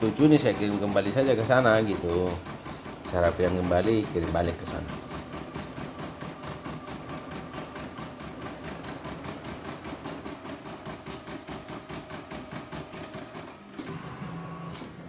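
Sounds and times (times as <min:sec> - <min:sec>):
embroidery machine stitching: 0:00.0 - 0:15.0.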